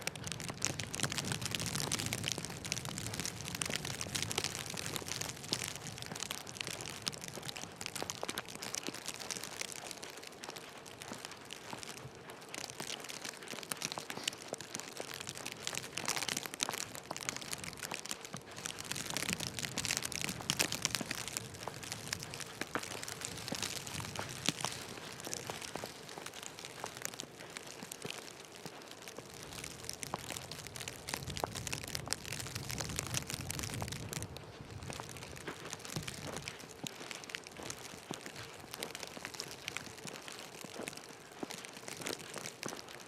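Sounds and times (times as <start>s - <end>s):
snow crunching: 0.1s - 43.0s.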